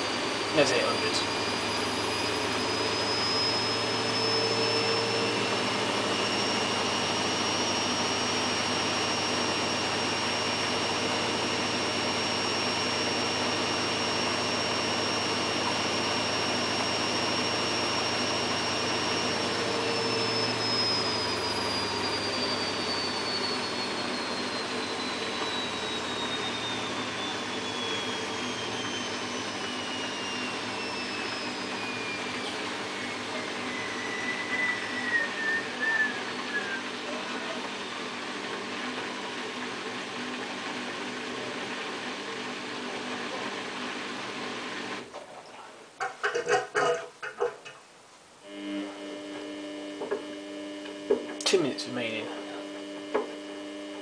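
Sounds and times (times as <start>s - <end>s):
washing machine motor whine: 0.0s - 54.0s.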